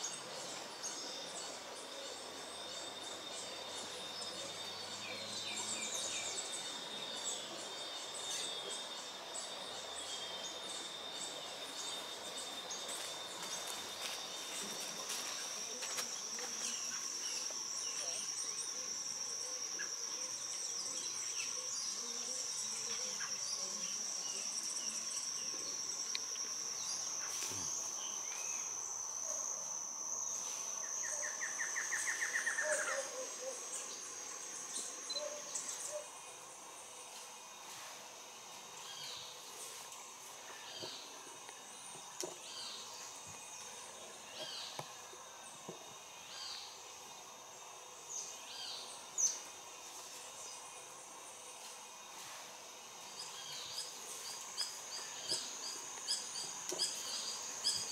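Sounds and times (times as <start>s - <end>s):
high-pitched insect drone: 0.0s - 57.9s.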